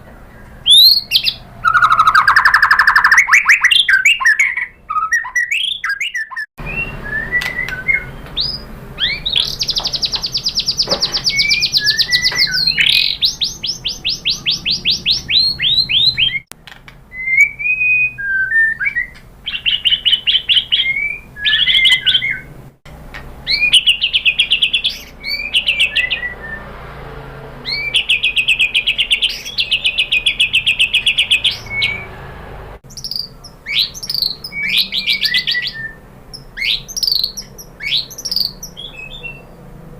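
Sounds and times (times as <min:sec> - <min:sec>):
bird singing fast trills: 0:00.3 - 0:16.5, 0:17.1 - 0:22.5, 0:23.4 - 0:27.0, 0:27.6 - 0:32.2, 0:32.9 - 0:39.7
bird whistled phrases: 0:00.4 - 0:16.5, 0:17.1 - 0:22.5, 0:23.5 - 0:26.8, 0:27.6 - 0:32.1, 0:32.9 - 0:39.5.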